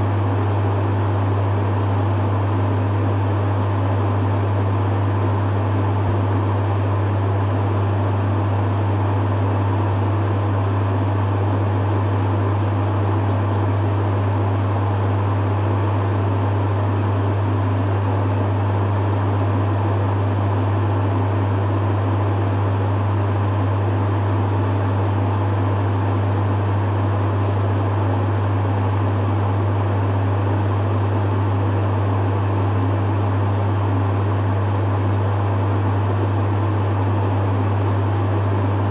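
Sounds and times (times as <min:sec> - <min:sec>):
dehumidifier hum and fan whoosh: 0:00.0 - 0:38.9.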